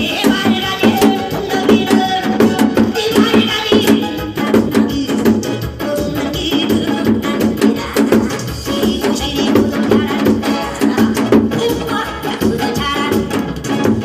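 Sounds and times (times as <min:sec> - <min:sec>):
loud accompanying music: 0:00.0 - 0:14.0.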